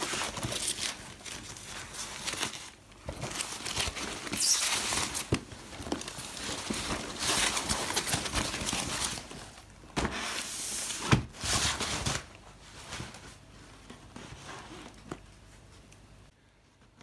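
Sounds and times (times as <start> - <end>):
packaging rustling: 0.0 - 15.5.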